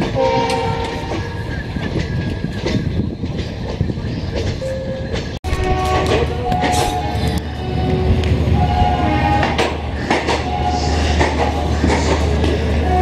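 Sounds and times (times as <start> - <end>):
train wheel squeal: 0.1 - 13.0.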